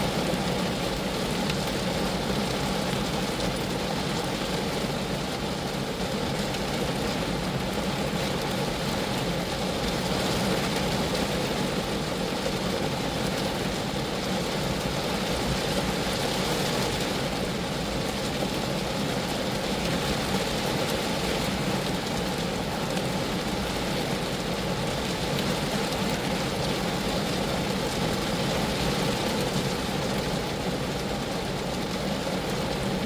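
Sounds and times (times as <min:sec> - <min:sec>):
rain pattering on a car: 0:00.0 - 0:33.0.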